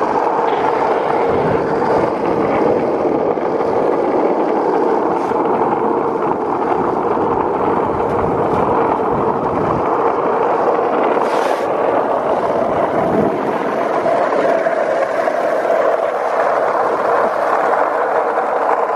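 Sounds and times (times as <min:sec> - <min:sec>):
road and wind noise: 0:00.0 - 0:18.9
steady hum: 0:00.0 - 0:18.9.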